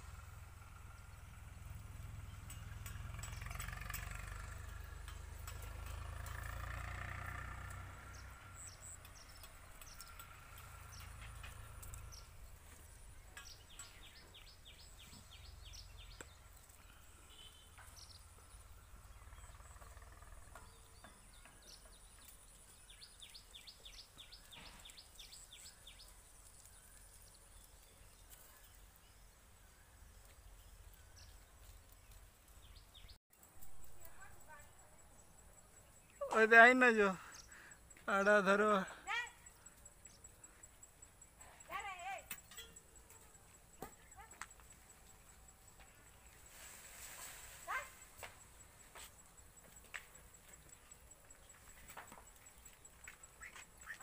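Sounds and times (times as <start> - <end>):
bird chirping: 6.6 - 46.5, 47.7 - 54.0.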